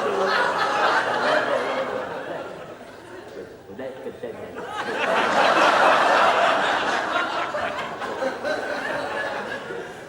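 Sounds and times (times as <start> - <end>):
audience laughing: 0.0 - 3.3, 4.6 - 10.0.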